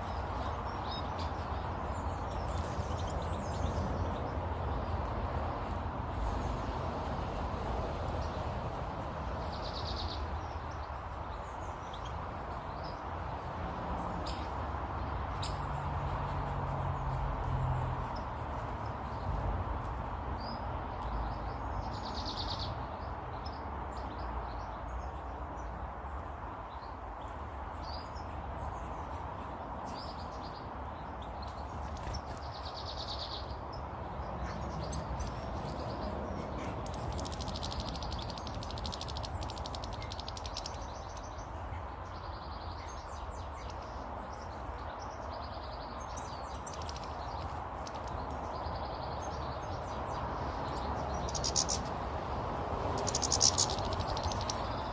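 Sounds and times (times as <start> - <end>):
small birds chirping and twittering: 0.0 - 54.9.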